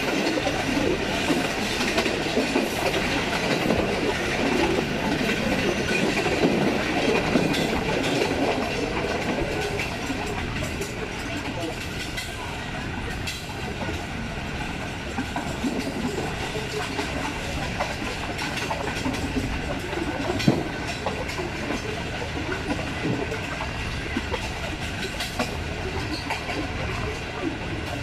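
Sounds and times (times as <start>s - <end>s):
train rumble and rushing air: 0.0s - 28.0s
wheels clicking over rail joints: 0.0s - 28.0s.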